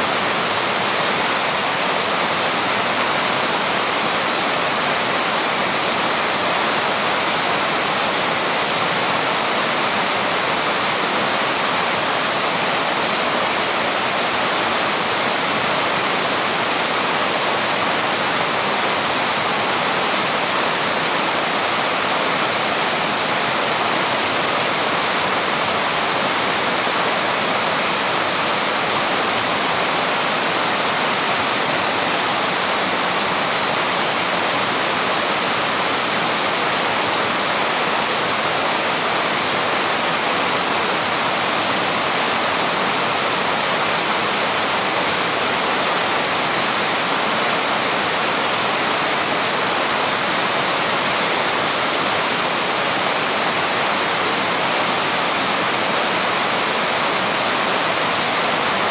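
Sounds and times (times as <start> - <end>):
small waterfall pouring: 0.0 - 58.9.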